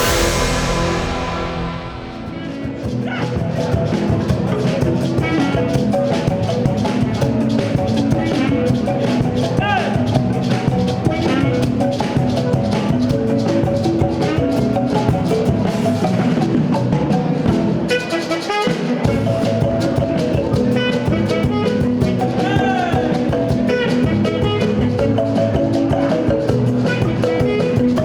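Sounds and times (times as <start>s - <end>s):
upbeat instrumental music: 0.0s - 28.0s.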